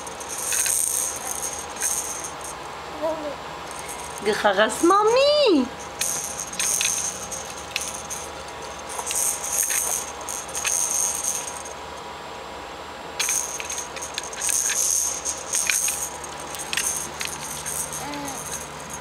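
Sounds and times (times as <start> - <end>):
rattle toy jingling: 0.0 - 2.6, 3.7 - 11.8, 13.2 - 19.0.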